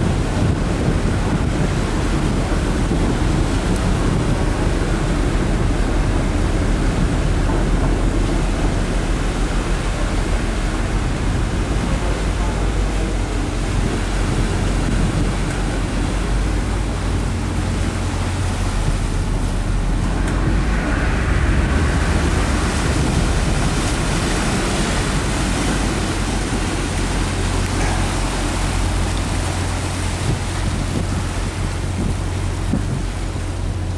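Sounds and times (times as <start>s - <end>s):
ship engine drone: 0.0s - 33.9s
wind and water rushing: 0.0s - 33.9s.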